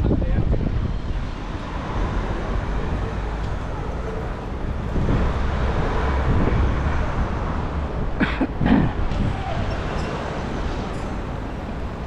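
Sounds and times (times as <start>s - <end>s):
city traffic noise: 0.0s - 12.0s
wind rumbling on microphone: 0.0s - 12.0s.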